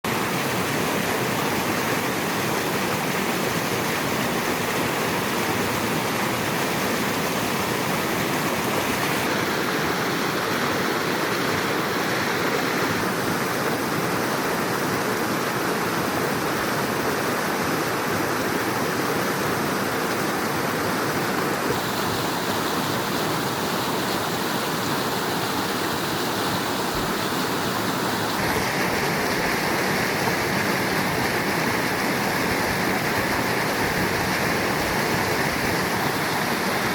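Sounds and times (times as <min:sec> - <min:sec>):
stream rushing over rocks: 0:00.0 - 0:36.9.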